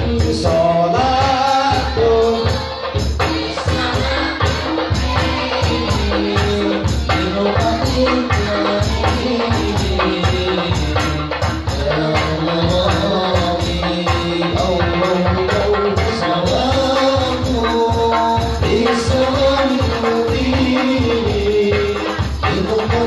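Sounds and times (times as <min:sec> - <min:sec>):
frame drums and bass drum rhythm: 0:00.0 - 0:23.0
person singing: 0:00.0 - 0:23.0.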